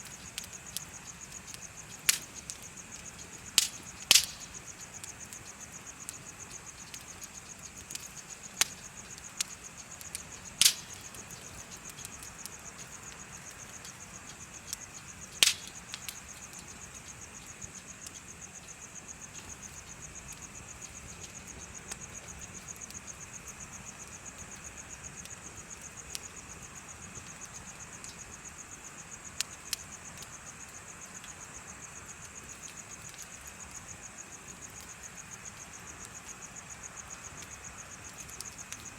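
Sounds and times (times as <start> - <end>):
bonfire crackling and popping: 0.0 - 38.9
insects chirping: 0.0 - 38.9.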